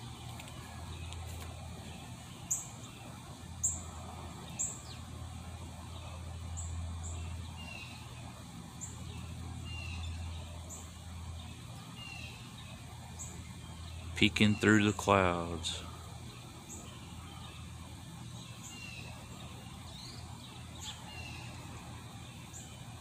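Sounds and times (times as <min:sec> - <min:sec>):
birds chirping: 0:00.0 - 0:23.0
steady low hum: 0:00.0 - 0:23.0.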